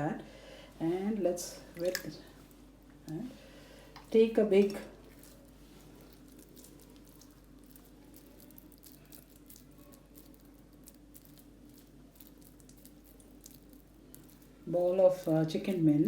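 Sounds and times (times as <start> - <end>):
faint steady hum: 0.0 - 16.0
wet hands squishing mince: 1.7 - 16.0.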